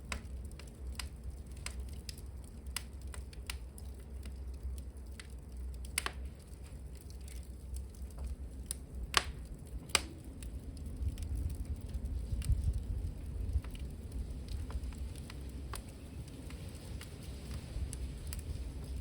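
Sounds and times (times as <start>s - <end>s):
low steady rumble: 0.0s - 19.0s
wood fire crackling: 0.0s - 19.0s.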